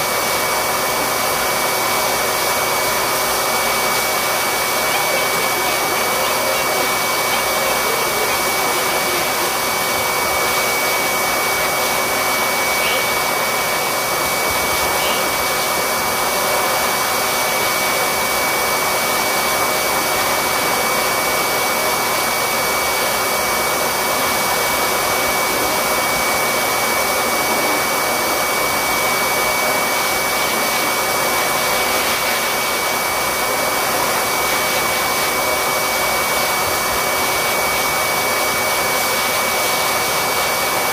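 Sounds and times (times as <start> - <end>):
electric blower motor running: 0.0 - 40.9.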